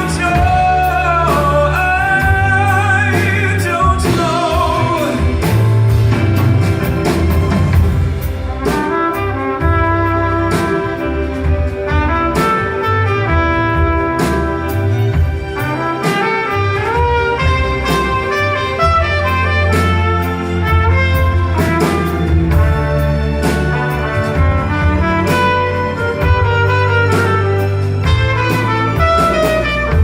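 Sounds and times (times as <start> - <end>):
bass line: 0.0 - 30.0
drum strokes: 0.0 - 30.0
lead melody: 0.0 - 30.0.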